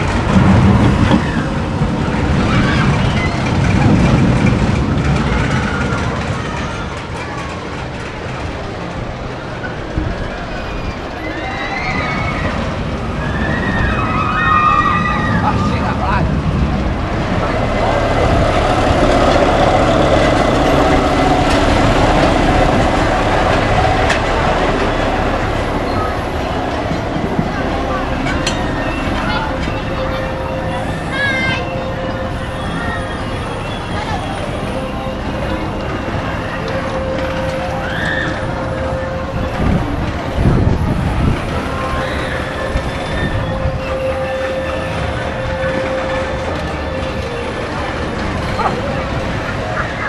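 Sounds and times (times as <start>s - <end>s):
ride train rumbling on rails: 0.0s - 50.0s.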